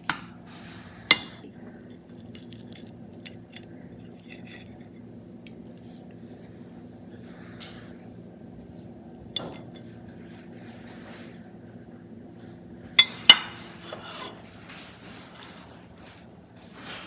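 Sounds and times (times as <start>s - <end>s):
low hum: 0.2s - 16.6s.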